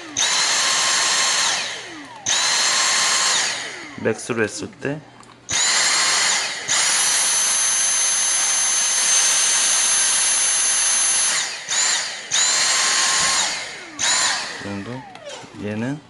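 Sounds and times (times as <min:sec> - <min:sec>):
vacuum cleaner motor whining: 0:00.0 - 0:04.6, 0:05.5 - 0:16.0.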